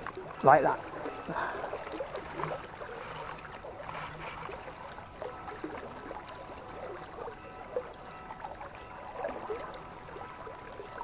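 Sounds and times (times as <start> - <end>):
river water flowing: 0.0 - 11.0
water rippling: 0.0 - 11.0.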